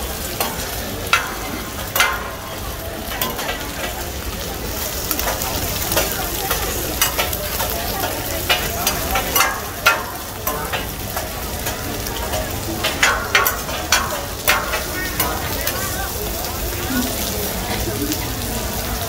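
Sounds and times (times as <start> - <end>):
eggs sizzling on a griddle: 0.0 - 19.0.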